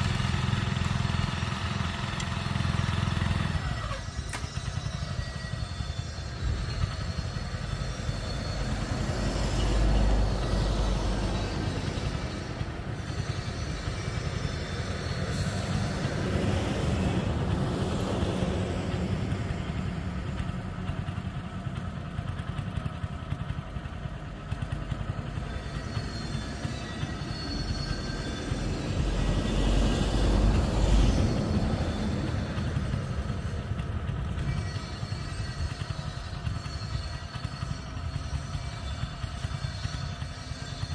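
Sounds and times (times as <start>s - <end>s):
cultivator engine idling: 0.0s - 40.9s.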